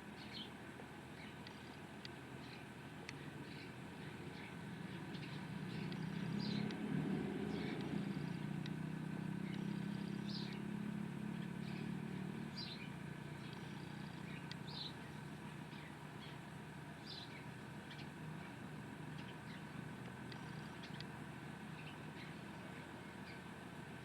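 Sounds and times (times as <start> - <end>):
small birds chirping: 0.0 - 24.0
motor vehicle passing: 3.2 - 24.0.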